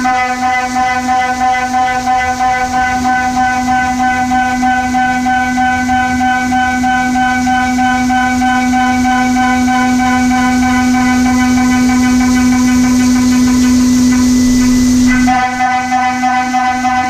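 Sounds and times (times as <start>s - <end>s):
hiss: 0.0s - 17.0s
milling machine cutting tone: 0.0s - 17.0s.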